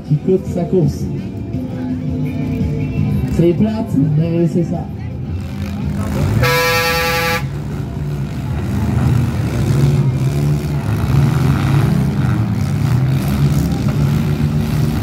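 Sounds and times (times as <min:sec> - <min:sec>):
car engines revving unevenly: 0:00.0 - 0:15.0.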